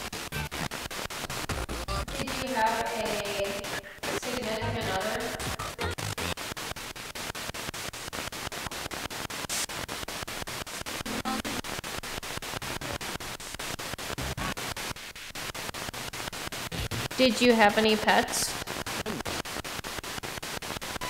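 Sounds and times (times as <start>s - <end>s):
snatches of broadcast sound: 0.0s - 21.0s
stuttering radio static: 0.0s - 21.0s.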